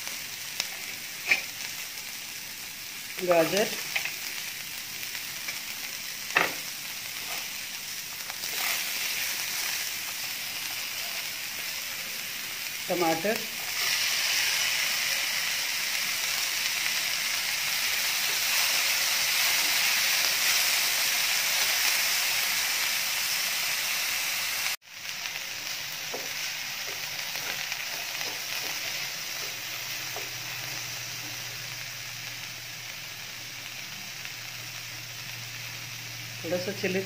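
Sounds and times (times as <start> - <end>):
vegetables sizzling in oil: 0.0 - 37.0.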